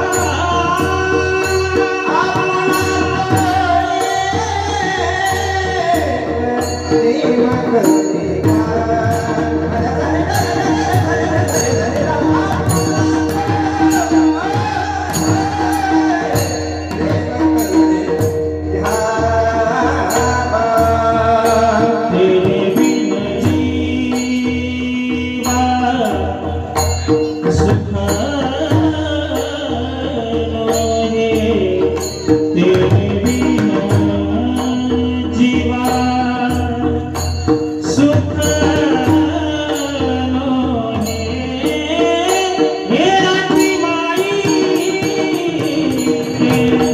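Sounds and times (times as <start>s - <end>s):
men singing devotional melody: 0.0s - 46.9s.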